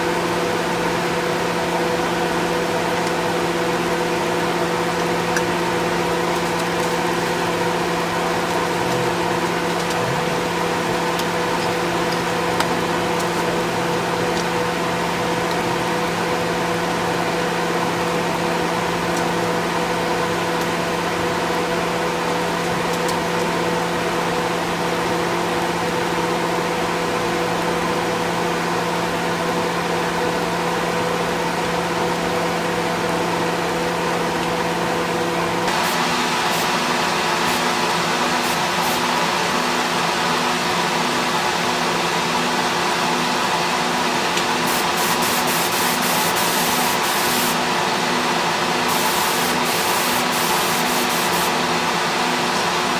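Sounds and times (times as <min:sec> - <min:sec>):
spray booth machinery humming: 0:00.0 - 0:52.9.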